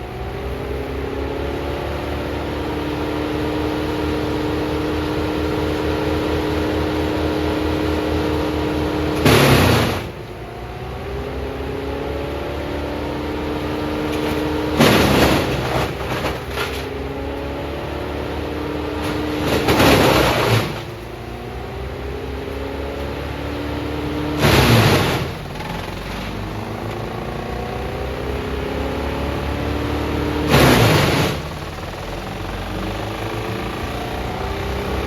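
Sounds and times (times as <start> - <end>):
wood chipper engine surging: 0.0 - 35.0.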